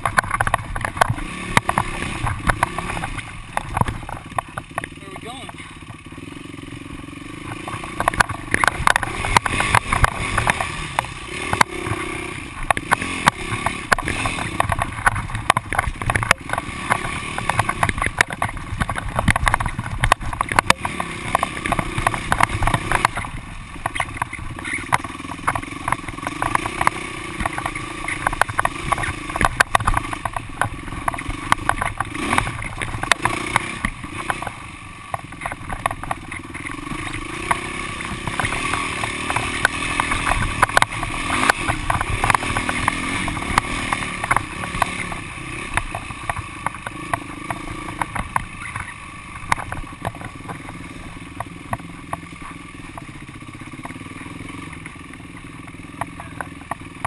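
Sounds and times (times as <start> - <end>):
bike knocking over rocks: 0.0 - 6.1, 7.4 - 57.0
motorbike engine revving: 0.0 - 57.0.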